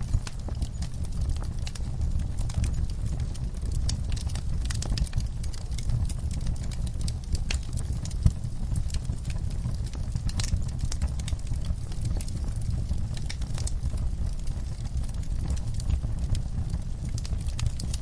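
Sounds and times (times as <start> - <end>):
low steady rumble: 0.0 - 18.0
wood fire crackling and popping: 0.0 - 18.0.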